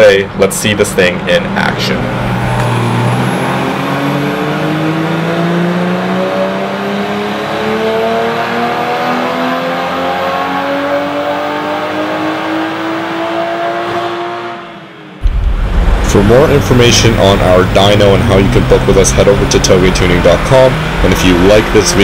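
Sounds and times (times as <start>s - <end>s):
car engine revving under load: 1.0s - 22.0s.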